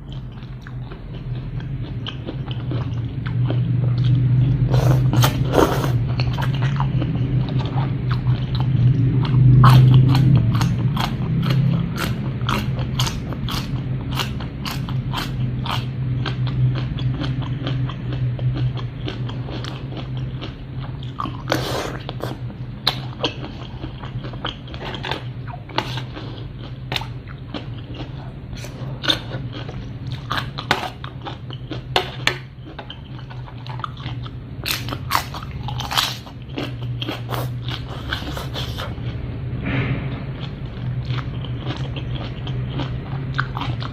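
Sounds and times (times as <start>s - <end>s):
person chewing and crunching food: 0.0s - 39.2s, 40.0s - 43.9s
steady low hum: 0.0s - 43.9s.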